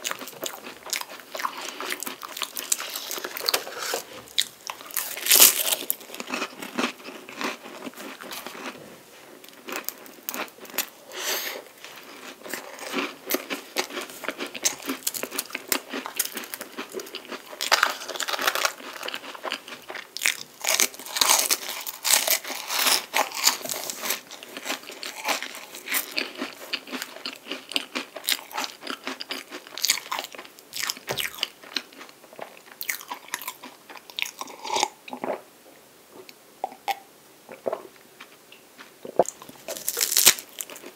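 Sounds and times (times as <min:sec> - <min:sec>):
crunching and chewing pastry: 0:00.0 - 0:35.4, 0:37.7 - 0:40.9.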